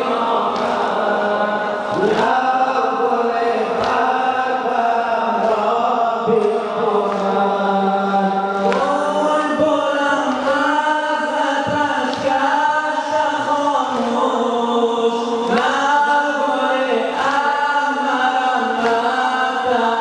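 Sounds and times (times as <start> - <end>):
young men chanting a lament: 0.0 - 20.0.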